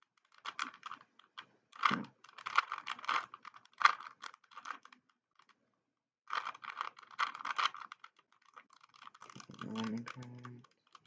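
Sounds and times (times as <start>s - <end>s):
puzzle cube layers clicking: 0.2s - 5.6s, 6.3s - 11.0s.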